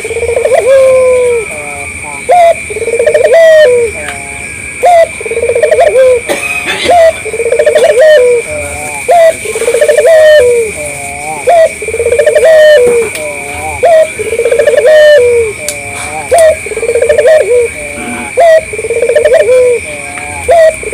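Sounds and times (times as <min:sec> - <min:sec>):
dove cooing: 0:00.0 - 0:20.9.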